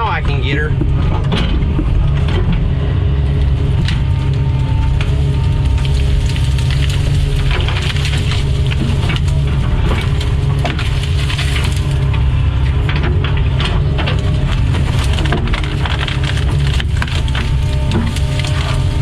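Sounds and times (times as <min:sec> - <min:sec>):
excavator diesel engine running: 0:00.0 - 0:19.0
wood crackling and snapping: 0:00.0 - 0:19.0.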